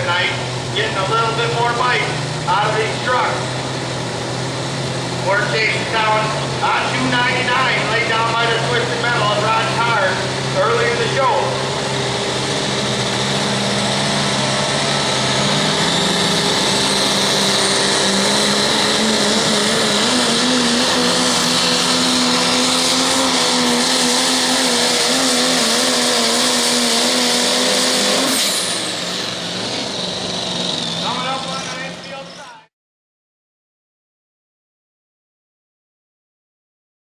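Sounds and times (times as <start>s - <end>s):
high whine: 0.0s - 32.6s
diesel truck engine at full throttle: 0.0s - 32.7s.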